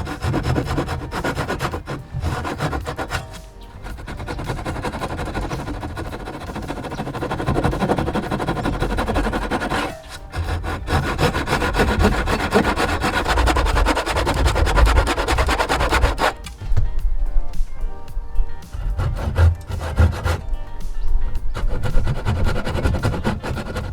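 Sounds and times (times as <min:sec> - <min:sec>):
hand saw cutting wood: 0:00.0 - 0:16.6, 0:18.7 - 0:20.7, 0:21.4 - 0:23.9.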